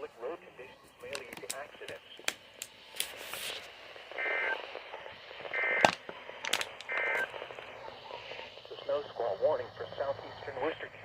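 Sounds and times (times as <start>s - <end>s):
radio static crackles and clicks: 0.0s - 11.0s.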